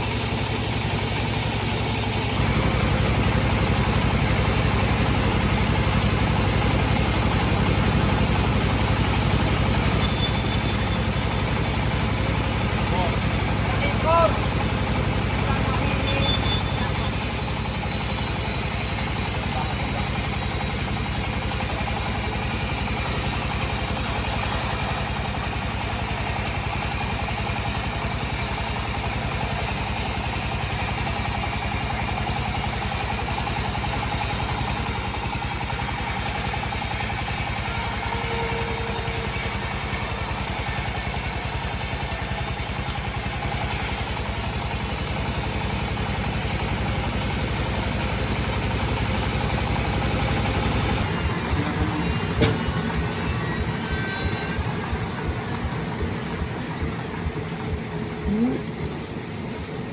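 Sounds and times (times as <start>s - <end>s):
bandsaw machine droning: 0.0s - 59.9s.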